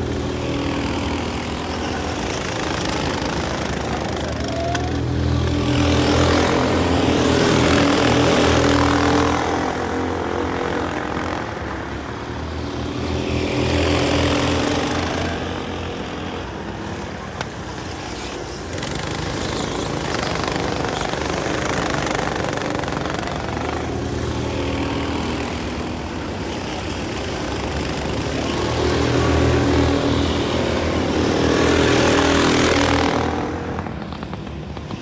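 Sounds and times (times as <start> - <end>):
go-kart engines buzzing: 0.0 - 35.0.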